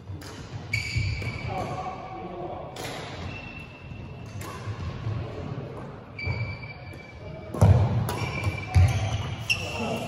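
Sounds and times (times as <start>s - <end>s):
shuttlecock hits in echoing hall: 0.0s - 10.0s.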